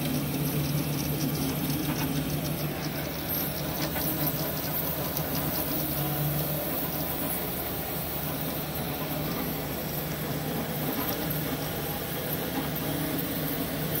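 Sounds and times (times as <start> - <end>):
cooling fans whirring: 0.0 - 14.0.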